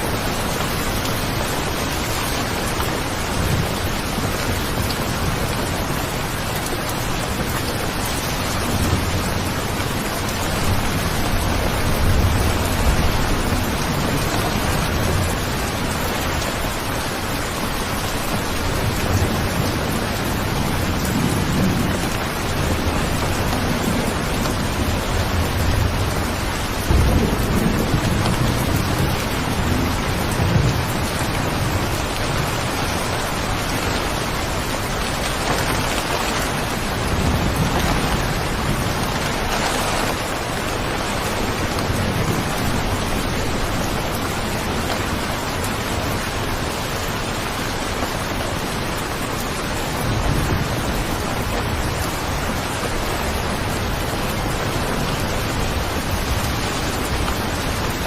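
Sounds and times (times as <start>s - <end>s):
heavy rain: 0.0s - 58.0s
thunder rumbling: 0.0s - 58.0s.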